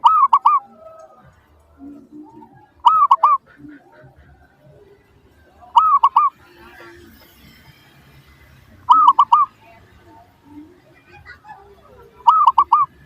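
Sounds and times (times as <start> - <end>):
dove cooing: 0.0 - 7.2, 8.8 - 13.0.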